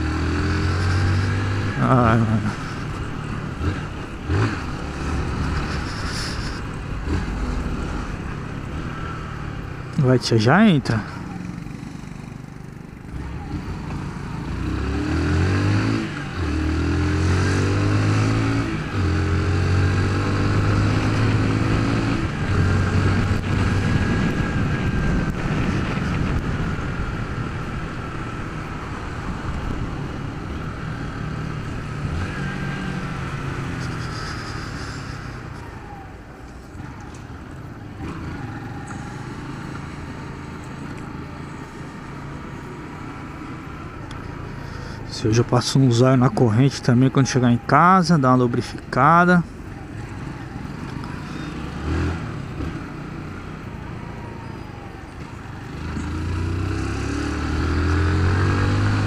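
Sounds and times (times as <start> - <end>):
motorcycle engine accelerating: 0.0 - 10.0, 10.7 - 46.7, 49.0 - 59.0.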